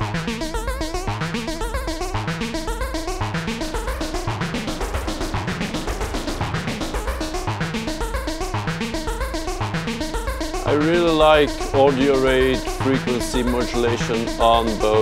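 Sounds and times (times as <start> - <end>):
synthesizer pulsing bass and lead: 0.0 - 15.0.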